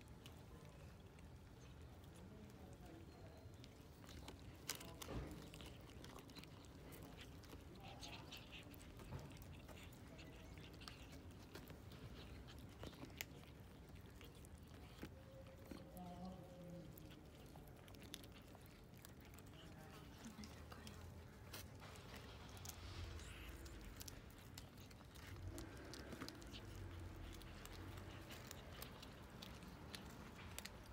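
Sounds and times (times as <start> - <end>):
cats chewing and crunching food: 0.0 - 30.9
small biting clicks: 0.0 - 30.9.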